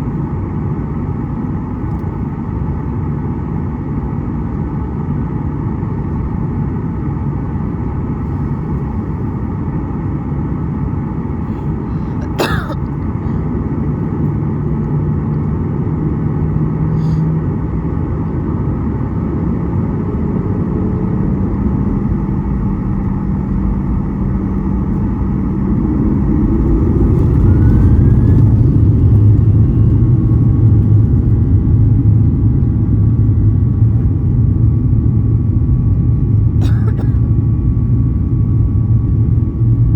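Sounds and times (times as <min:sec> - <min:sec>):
jet engines heard from cabin: 0:00.0 - 0:39.9.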